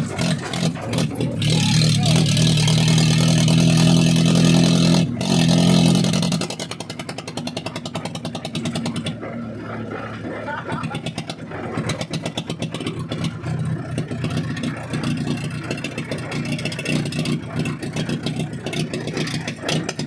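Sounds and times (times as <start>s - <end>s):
tractor diesel engine revving: 0.0s - 20.0s.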